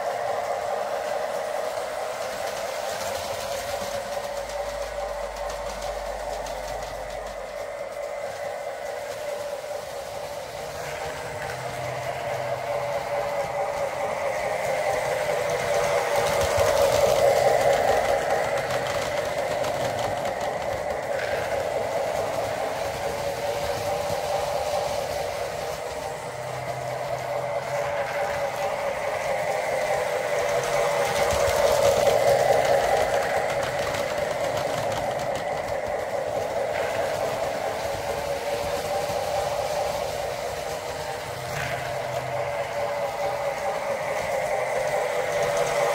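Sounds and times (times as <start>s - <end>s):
slot car motors whining: 0.0s - 45.9s
toy train running on track: 0.0s - 45.9s.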